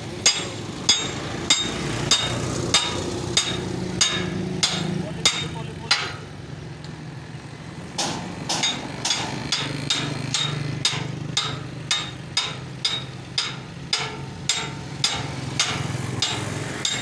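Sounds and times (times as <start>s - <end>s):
hammer striking metal: 0.2s - 6.3s, 8.0s - 17.0s.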